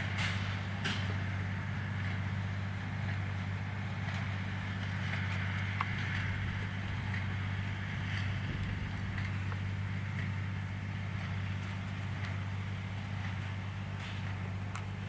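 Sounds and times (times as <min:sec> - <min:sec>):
distant tractor and baler drone: 0:00.0 - 0:15.0.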